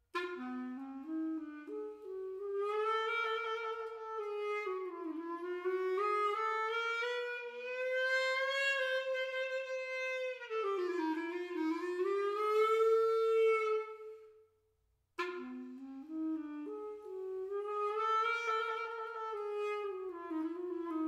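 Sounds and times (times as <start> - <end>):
solo clarinet: 0.0 - 14.5, 15.2 - 21.0.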